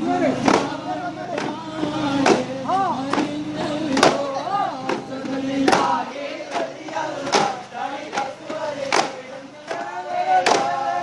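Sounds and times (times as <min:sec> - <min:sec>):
men singing in chorus: 0:00.0 - 0:11.0.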